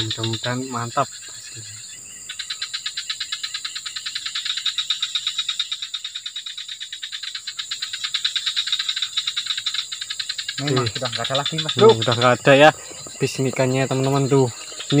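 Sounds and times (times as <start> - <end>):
frog trilling: 0.0 - 15.0
high insect drone: 0.0 - 15.0.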